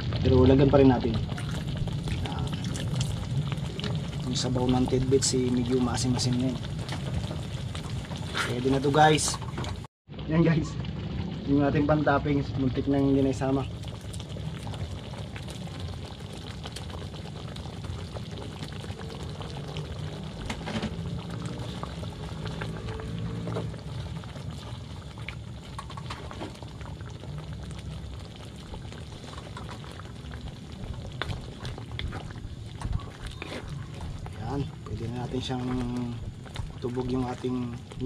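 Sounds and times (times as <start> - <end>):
sauce bubbling in a pan: 0.0 - 38.0.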